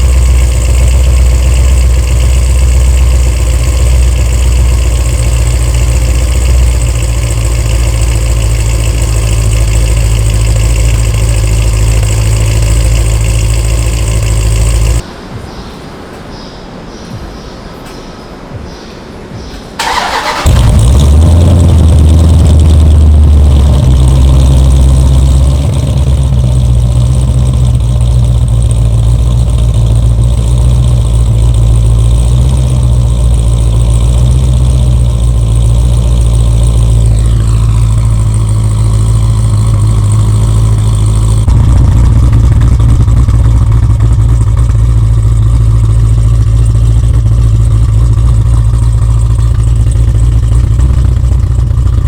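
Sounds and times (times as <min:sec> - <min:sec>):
car engine starting and idling: 0:00.0 - 0:18.6, 0:19.2 - 0:52.0.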